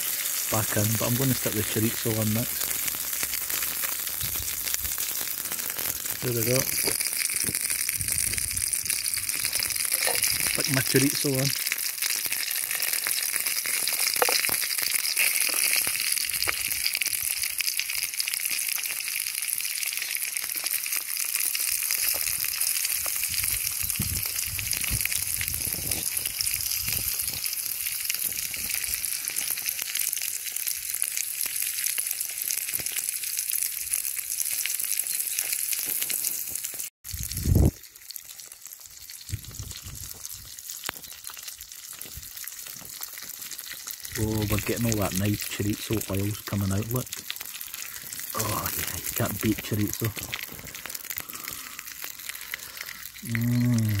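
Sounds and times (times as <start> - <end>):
sausage sizzling in a frying pan: 0.0 - 54.0.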